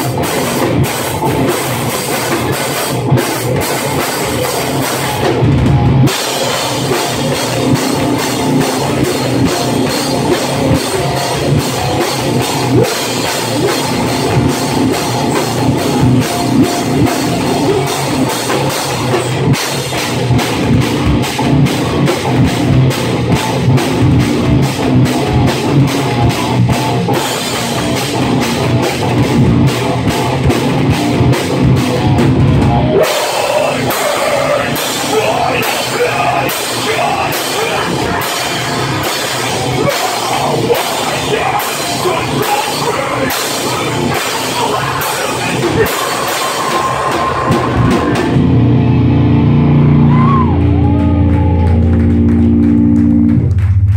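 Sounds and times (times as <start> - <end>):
bass guitar: 0.0 - 53.9
distorted electric guitar: 0.0 - 53.9
drum kit with cymbal hits: 0.0 - 53.9.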